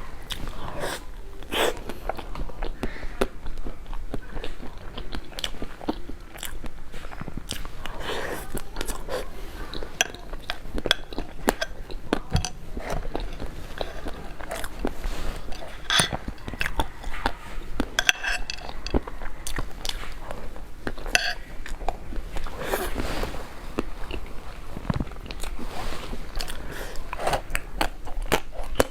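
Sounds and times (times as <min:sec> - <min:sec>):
person chewing with mouth clicks: 0:00.0 - 0:28.9.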